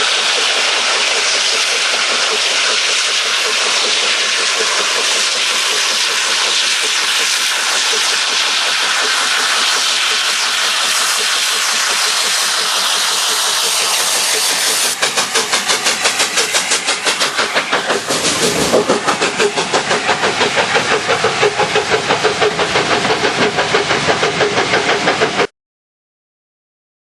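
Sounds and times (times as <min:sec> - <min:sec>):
steam hissing: 0:00.0 - 0:25.5
steam locomotive chuffing: 0:00.0 - 0:25.5.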